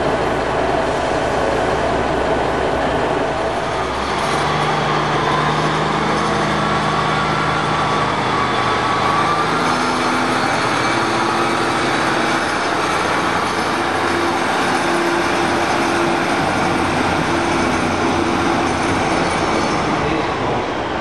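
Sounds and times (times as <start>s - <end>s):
diesel train engines running: 0.0s - 21.0s.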